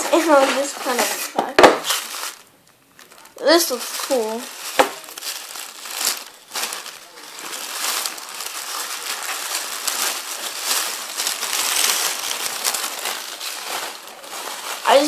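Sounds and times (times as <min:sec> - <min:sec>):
paper wrapping crinkling: 0:00.0 - 0:15.0.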